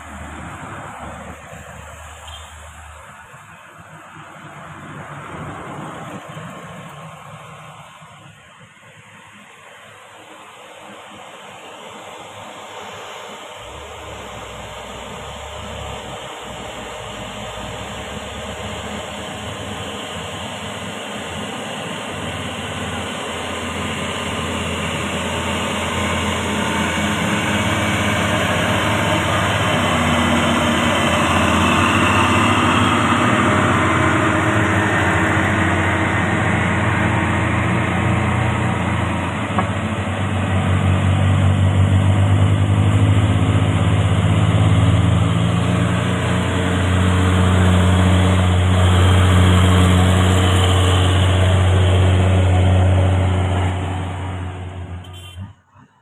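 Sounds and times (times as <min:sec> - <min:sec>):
truck diesel engines climbing: 0:00.0 - 0:09.8, 0:11.9 - 0:55.8
truck passing rush: 0:00.0 - 0:10.0, 0:12.3 - 0:56.0.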